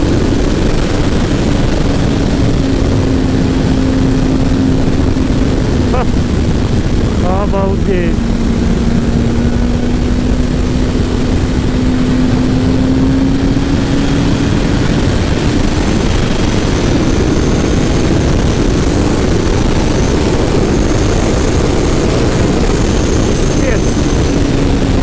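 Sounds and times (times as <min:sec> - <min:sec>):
motorcycle engine: 0:00.0 - 0:25.0
wind rushing over microphone: 0:00.0 - 0:25.0.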